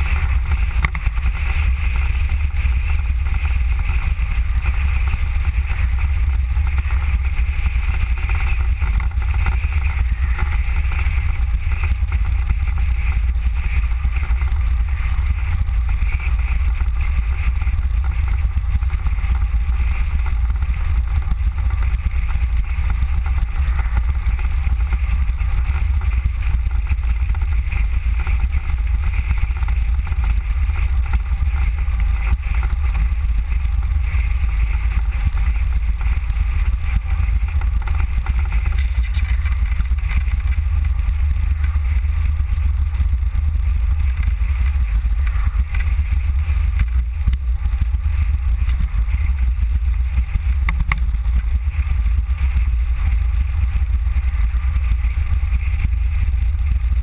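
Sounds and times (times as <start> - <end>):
velomobile rolling on asphalt: 0.0 - 57.0
wind on microphone: 0.0 - 57.0.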